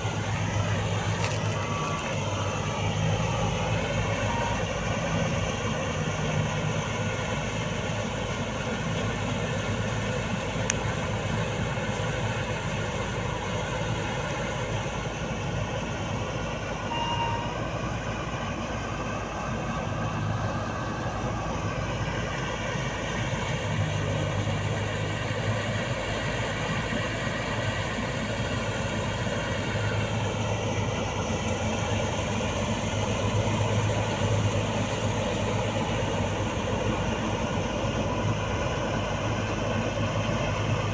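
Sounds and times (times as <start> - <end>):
combine harvester droning: 0.0 - 40.9.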